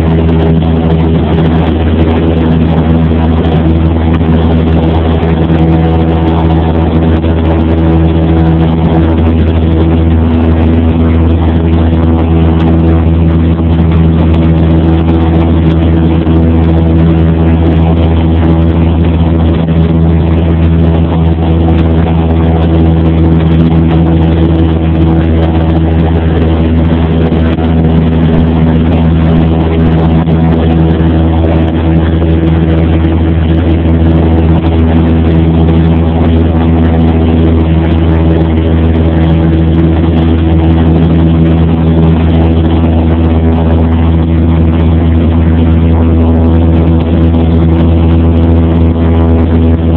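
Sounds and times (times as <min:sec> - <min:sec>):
airplane engine droning: 0:00.0 - 0:49.9.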